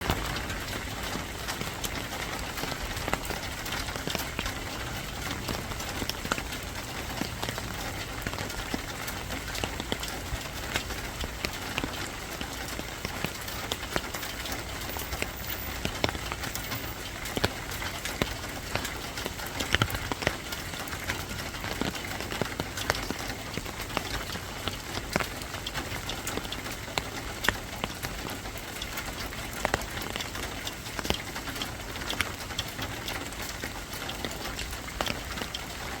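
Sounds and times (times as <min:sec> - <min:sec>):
raindrops pattering on surfaces: 0:00.0 - 0:36.0
steady rain hiss: 0:00.0 - 0:36.0.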